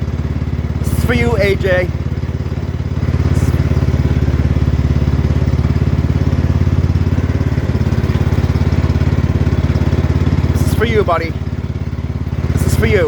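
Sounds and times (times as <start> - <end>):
garden tractor engine throbbing: 0.0 - 13.0.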